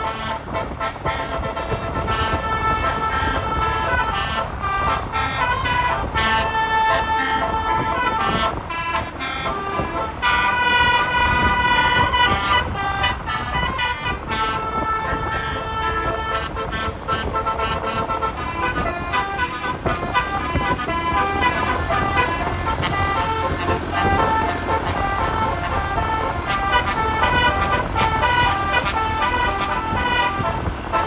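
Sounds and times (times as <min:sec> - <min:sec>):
bus air horn playing tune: 0:00.0 - 0:31.0.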